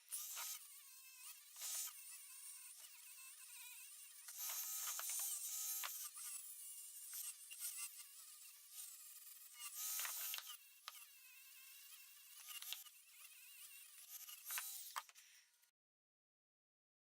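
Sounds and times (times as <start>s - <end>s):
power tool motor whining: 0.0s - 15.6s.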